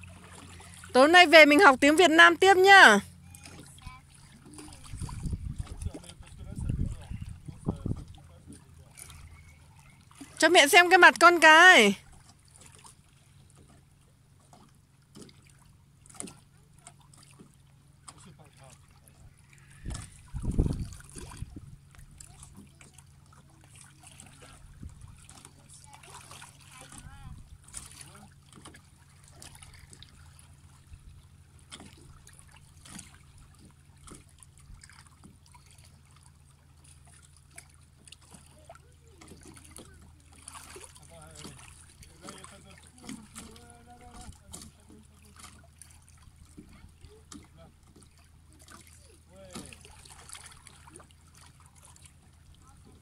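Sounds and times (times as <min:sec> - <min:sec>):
small waves lapping at rocks: 0:00.0 - 0:10.8, 0:11.6 - 0:53.0.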